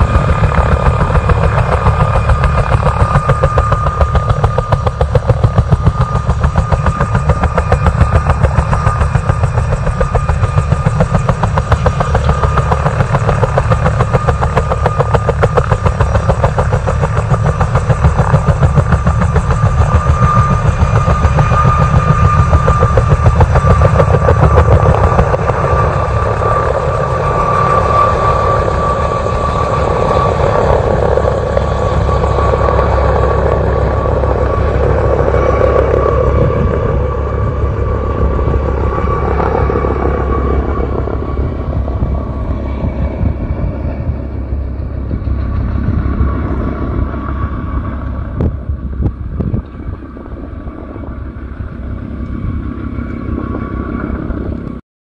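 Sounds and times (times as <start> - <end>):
helicopter rotor chop: 0.0 - 54.8
turbine whine: 0.0 - 54.8.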